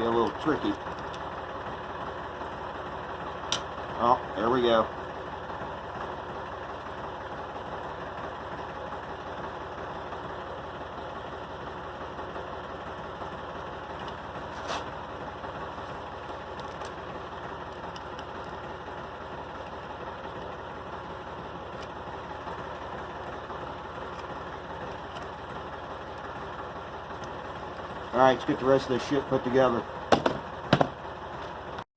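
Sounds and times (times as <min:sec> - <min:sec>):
tractor engine idling: 0:00.0 - 0:31.8.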